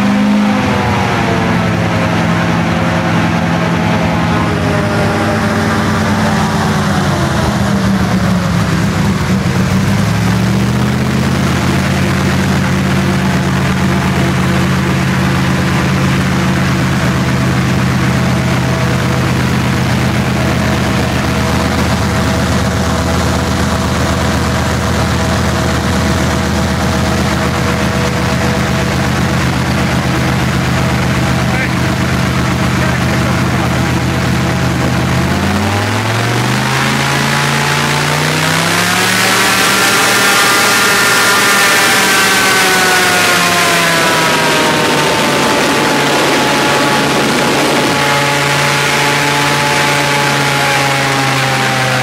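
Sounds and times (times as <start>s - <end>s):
airboat engine and propeller: 0.0s - 52.0s.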